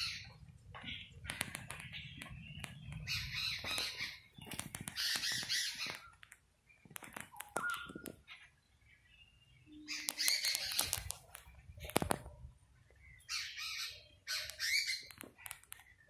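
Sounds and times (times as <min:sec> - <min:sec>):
harsh rasping bird calls: 0:00.0 - 0:06.3, 0:07.1 - 0:12.2, 0:13.0 - 0:16.0
clear bird chirp: 0:00.0 - 0:16.0.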